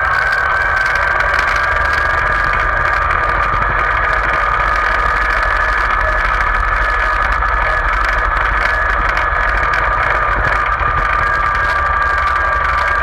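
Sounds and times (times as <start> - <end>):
high whine: 0.0 - 13.0
tractor engine rumbling: 0.0 - 13.0.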